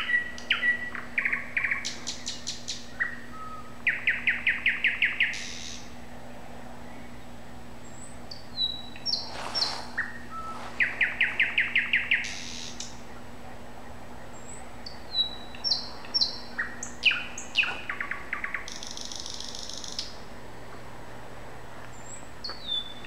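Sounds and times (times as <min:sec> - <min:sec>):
songbird singing: 0:00.0 - 0:20.9, 0:21.6 - 0:23.0
faint low hum: 0:00.0 - 0:23.0.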